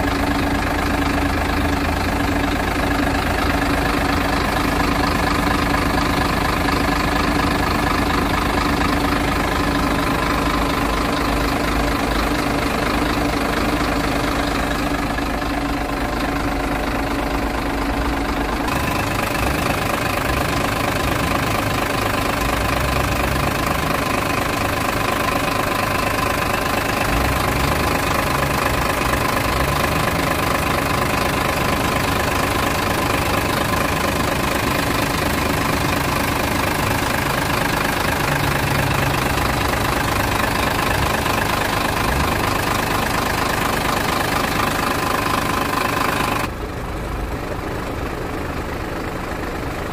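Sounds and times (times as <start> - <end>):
diesel truck engine idling: 0.0 - 49.9.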